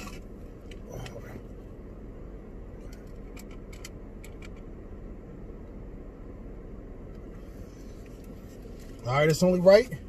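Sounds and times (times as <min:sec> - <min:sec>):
car interior hum: 0:00.0 - 0:10.0.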